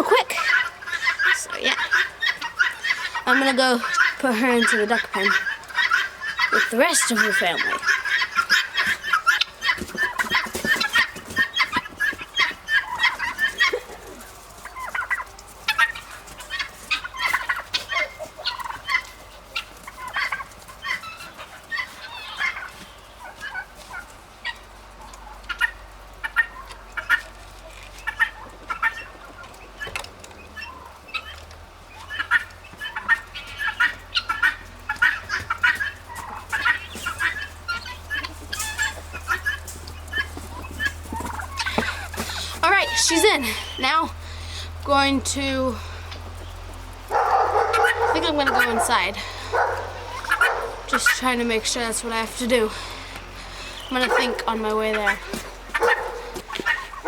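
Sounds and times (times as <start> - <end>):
poultry calling: 0.0 - 57.0.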